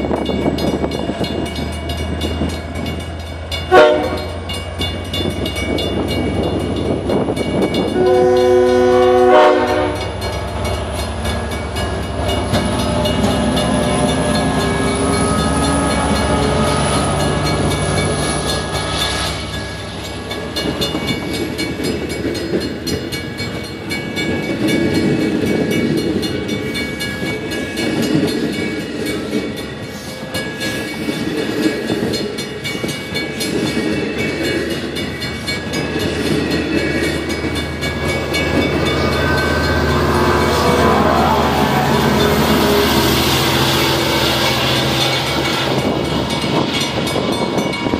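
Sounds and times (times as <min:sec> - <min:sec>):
diesel train engine tone: 0:00.0 - 0:47.9
train wheels clicking over rail joints: 0:00.0 - 0:47.9.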